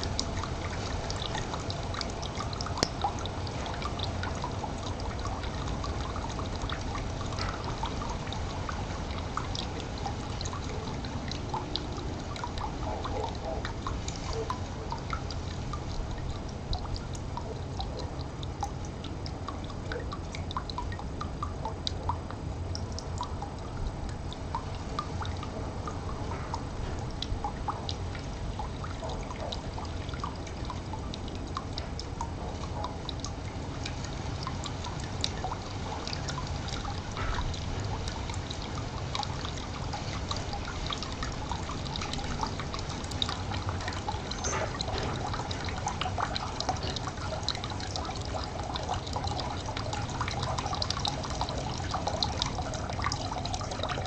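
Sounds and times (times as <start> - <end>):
stream trickling: 0.0 - 54.0
water drips and plinks: 0.0 - 54.0.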